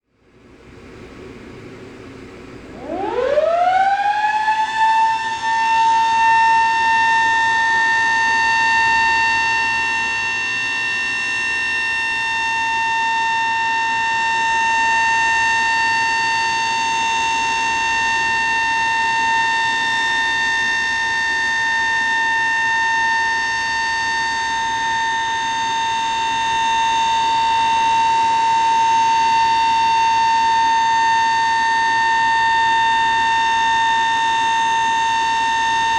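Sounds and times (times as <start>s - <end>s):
warning siren winding up: 2.7s - 35.9s.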